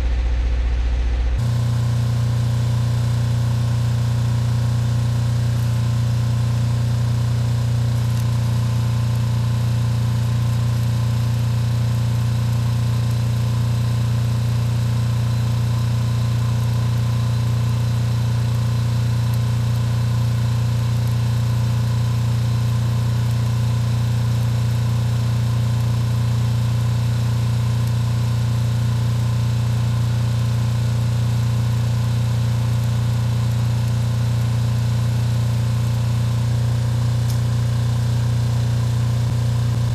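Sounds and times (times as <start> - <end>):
welding rig engine droning: 0.0 - 39.9.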